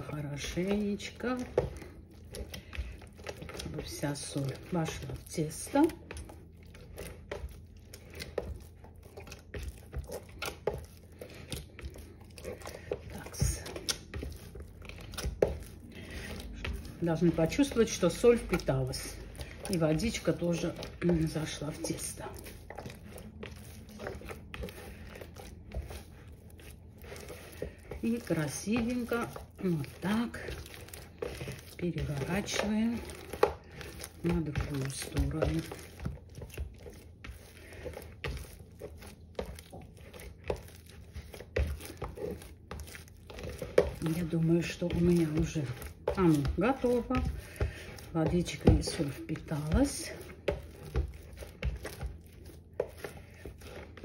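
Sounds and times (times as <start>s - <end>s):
sticky dough squelches: 0.0s - 54.0s.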